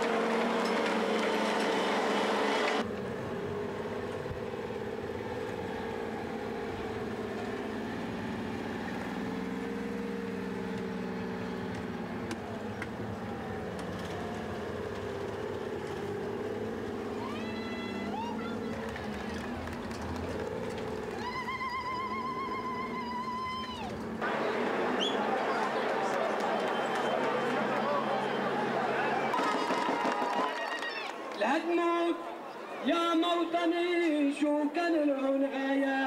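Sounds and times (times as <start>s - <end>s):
military vehicle engines running: 0.0s - 31.4s.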